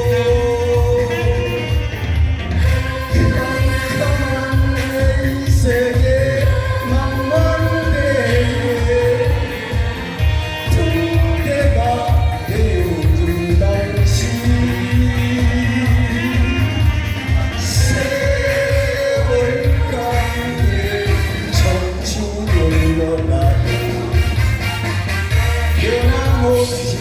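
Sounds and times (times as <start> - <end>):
heavy bass beat: 0.0 - 27.0
person singing pop song: 0.0 - 27.0.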